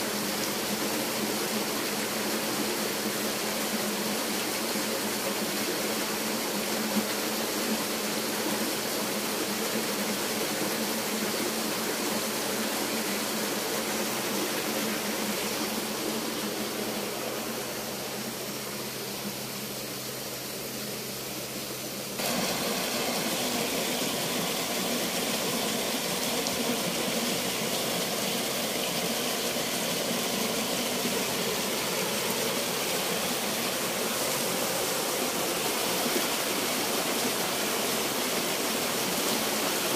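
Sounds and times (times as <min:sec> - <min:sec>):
stream running over stones: 0:00.0 - 0:39.9
water pouring down rocky cascade: 0:00.0 - 0:39.9.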